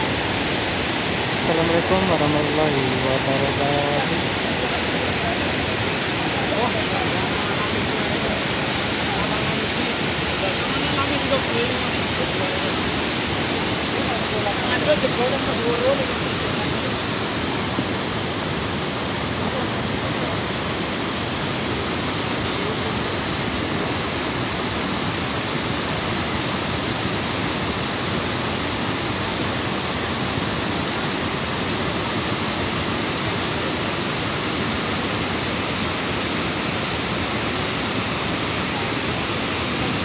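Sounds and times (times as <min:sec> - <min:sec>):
muddy flood rushing over rocks: 0:00.0 - 0:40.0.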